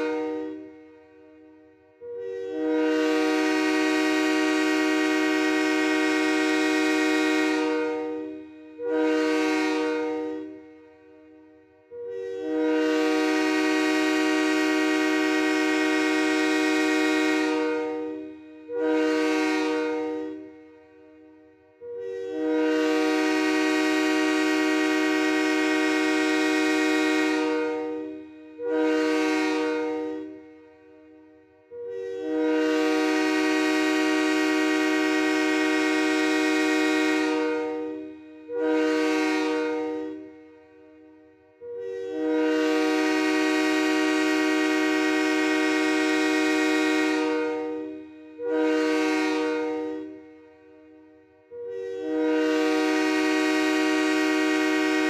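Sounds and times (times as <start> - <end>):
train horn blasts: 0.0 - 55.0.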